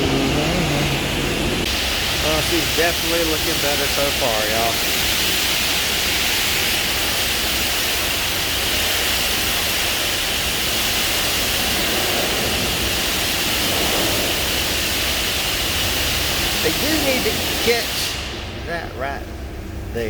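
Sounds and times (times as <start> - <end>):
pressure washer spray hissing: 0.0 - 19.1.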